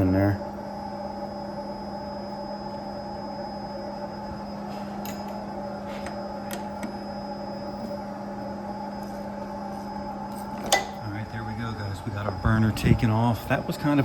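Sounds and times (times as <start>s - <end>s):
electrical-mechanical hum: 0.0s - 14.0s.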